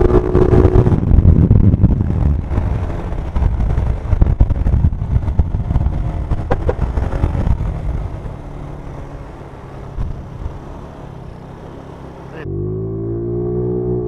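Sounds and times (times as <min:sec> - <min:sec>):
wind buffeting microphone: 0:00.0 - 0:12.3
road noise: 0:00.0 - 0:14.0
vehicle engine hum: 0:00.0 - 0:14.0.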